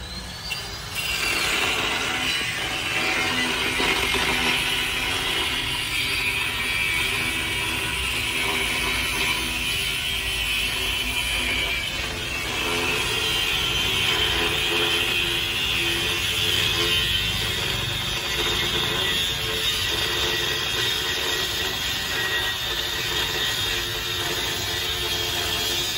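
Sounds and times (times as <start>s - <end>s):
angle grinder cutting metal pipe: 0.4s - 25.9s.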